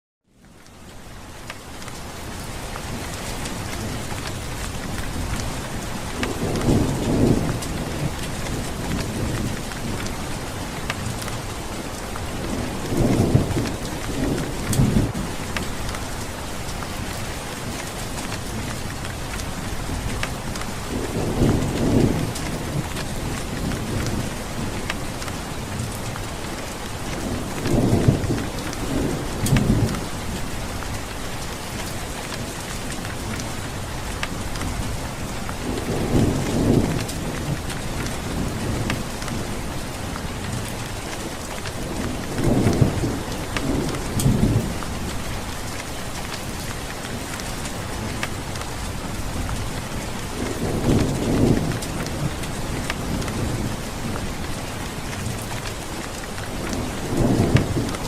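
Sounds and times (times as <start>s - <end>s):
steady rain: 0.2s - 58.0s.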